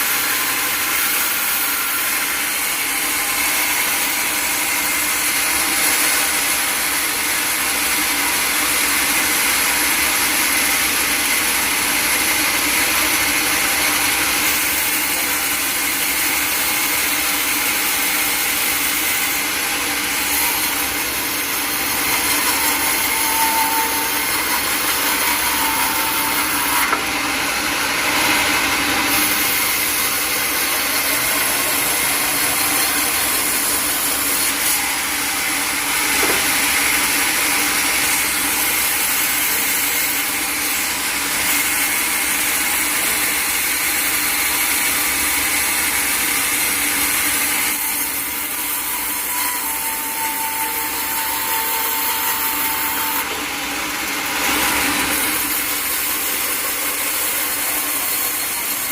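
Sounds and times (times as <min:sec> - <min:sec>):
saw cutting through log: 0:00.0 - 0:58.9.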